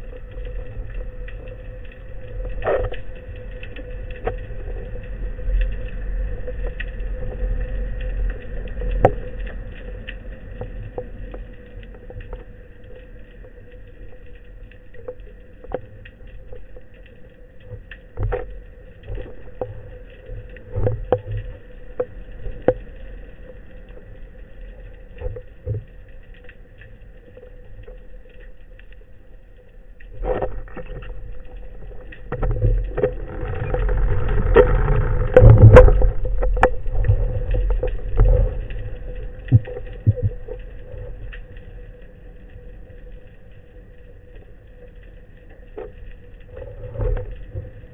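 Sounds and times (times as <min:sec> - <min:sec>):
low underwater rumble: 0:00.0 - 0:47.9
underwater clicks and knocks: 0:00.1 - 0:29.0, 0:30.0 - 0:41.6.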